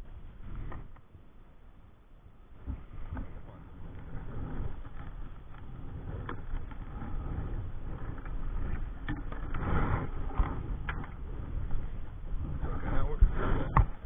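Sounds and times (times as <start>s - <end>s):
wind rumbling on microphone: 0.0s - 14.0s
fabric brushing microphone: 2.6s - 14.0s.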